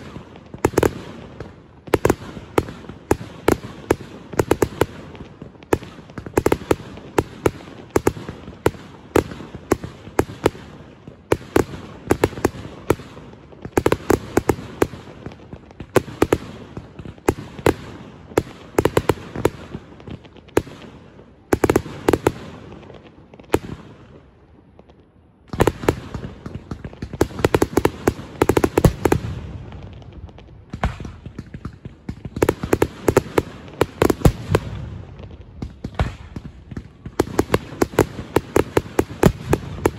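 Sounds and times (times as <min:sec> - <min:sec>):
fireworks cracks and bangs: 0:00.0 - 0:39.9.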